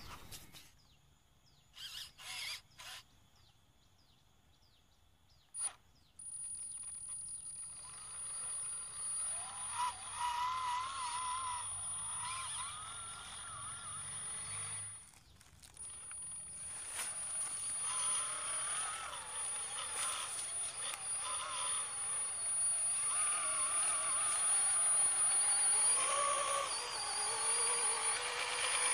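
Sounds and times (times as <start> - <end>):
motor and gearbox whining: 0.0 - 0.9, 1.5 - 3.5, 5.6 - 28.9.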